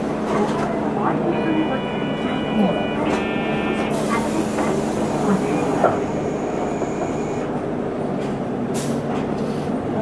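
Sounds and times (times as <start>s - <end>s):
bus diesel engine hum: 0.0s - 10.0s.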